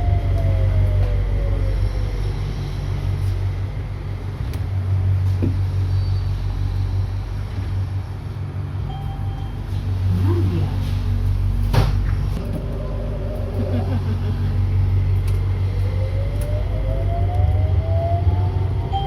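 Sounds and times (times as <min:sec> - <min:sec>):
light rail train rumbling: 0:00.0 - 0:19.0.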